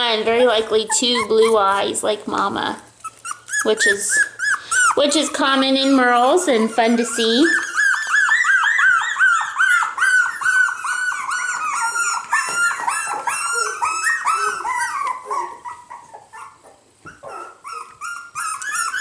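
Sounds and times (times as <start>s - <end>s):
puppies whining and yipping: 0.0s - 19.0s.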